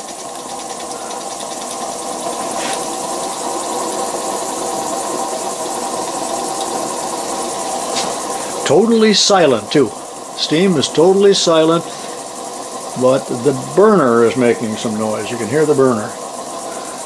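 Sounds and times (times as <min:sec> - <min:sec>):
gas burner hissing: 0:00.0 - 0:17.0.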